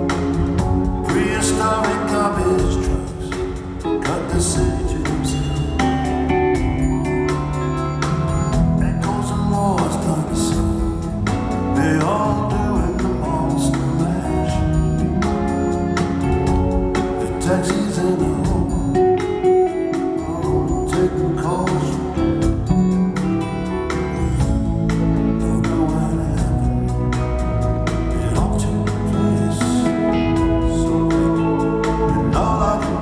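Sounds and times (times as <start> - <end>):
man singing: 0.0 - 6.4, 8.5 - 22.8, 23.9 - 33.0
live rock band playing: 0.0 - 33.0.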